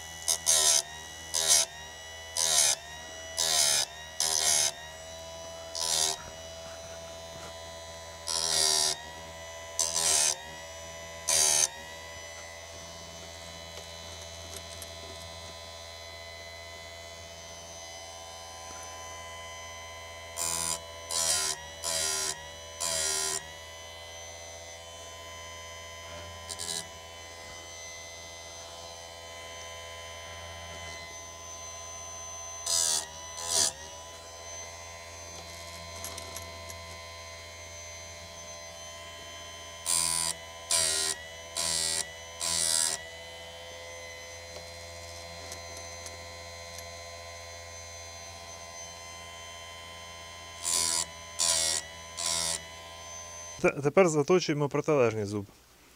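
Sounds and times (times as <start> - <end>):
short grinding bursts: 0.0 - 15.9, 17.2 - 54.6
chain grinder whining: 0.0 - 53.7.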